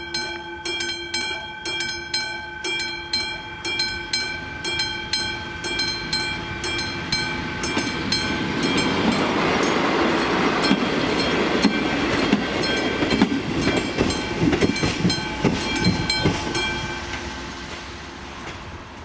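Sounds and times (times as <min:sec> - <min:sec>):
level crossing bell ringing: 0:00.0 - 0:17.2
diesel railcar passing: 0:00.0 - 0:19.0.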